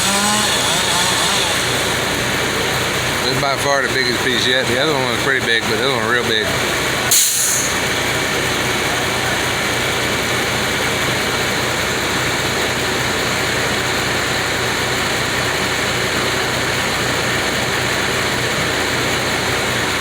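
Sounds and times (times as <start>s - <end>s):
heavy engine running steadily: 0.0s - 20.0s.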